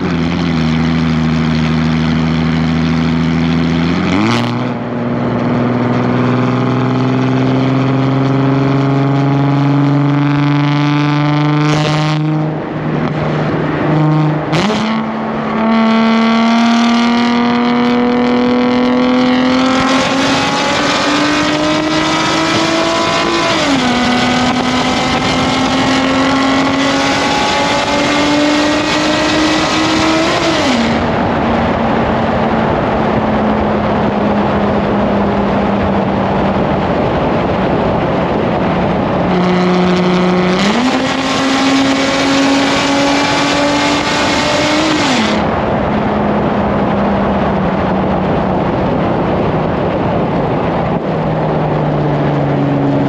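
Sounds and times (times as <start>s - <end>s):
car exhaust accelerating hard: 0.0s - 53.0s.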